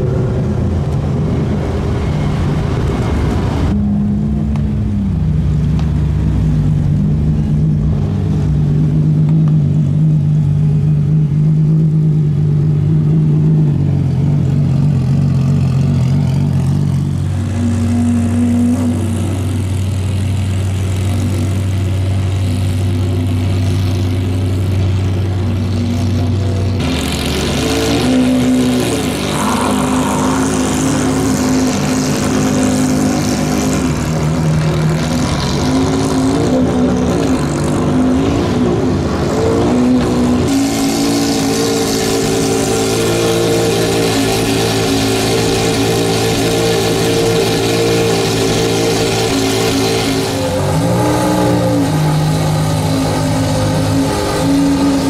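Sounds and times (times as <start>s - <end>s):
engine revving: 0.0s - 55.0s
sports car engines running: 0.0s - 55.0s.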